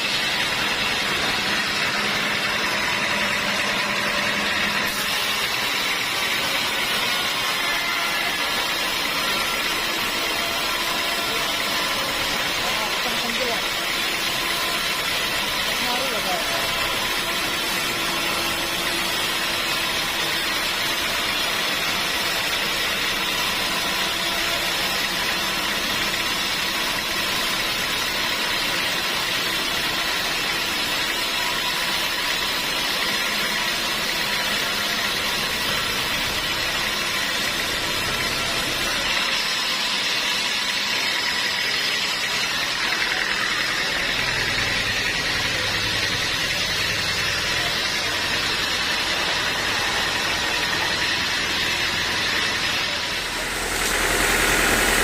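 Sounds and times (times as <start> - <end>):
sawmill machinery whining hum: 0.0 - 55.0.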